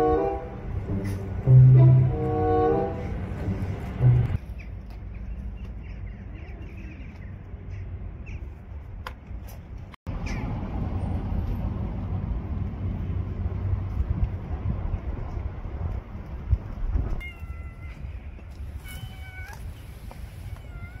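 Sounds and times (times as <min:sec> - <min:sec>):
low rumble of traffic: 0:00.0 - 0:21.0.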